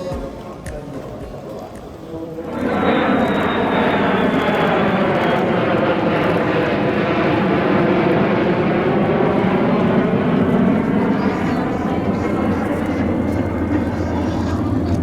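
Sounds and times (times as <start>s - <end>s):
military plane engine noise: 0.0s - 15.0s
high whine dropping in pitch: 2.5s - 15.0s.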